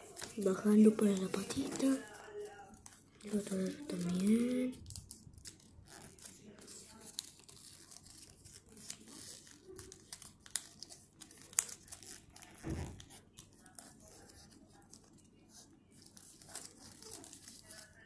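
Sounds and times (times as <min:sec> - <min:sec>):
paper crinkling and creasing: 0:00.0 - 0:18.0.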